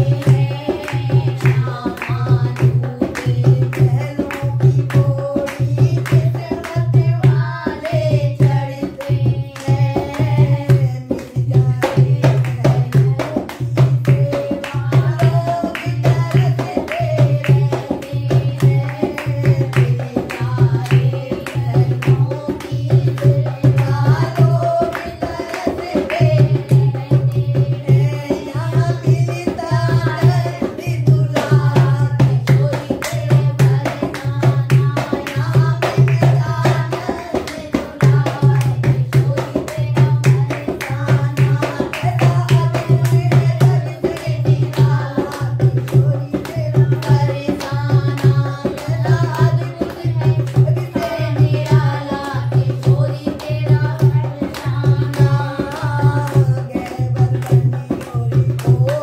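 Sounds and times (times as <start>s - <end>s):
hand drum rhythm: 0.0s - 59.0s
women singing: 0.0s - 59.0s
hand-clapping: 0.1s - 27.3s, 29.3s - 59.0s.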